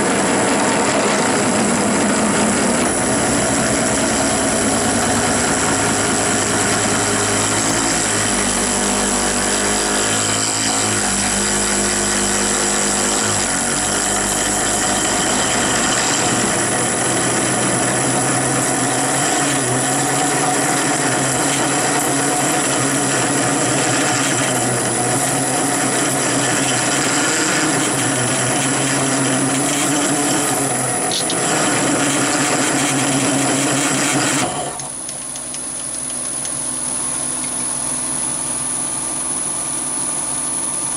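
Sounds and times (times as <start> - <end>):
drill cutting steel: 0.0 - 35.1
lathe motor running: 0.0 - 40.9.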